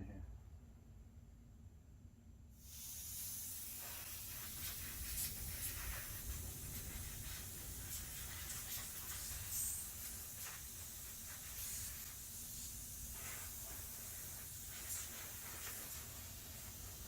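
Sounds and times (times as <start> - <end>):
compressed air hissing: 2.6 - 17.0.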